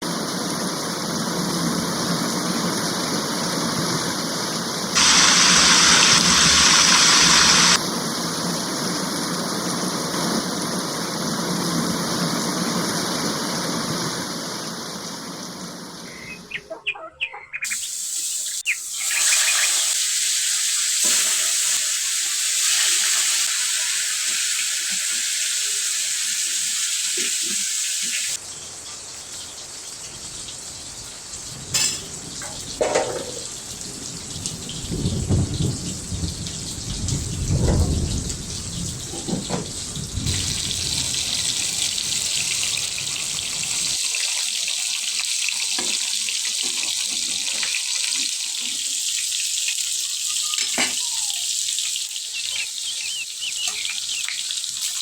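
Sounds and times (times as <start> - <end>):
rain pouring: 0.0 - 16.6, 17.7 - 55.0.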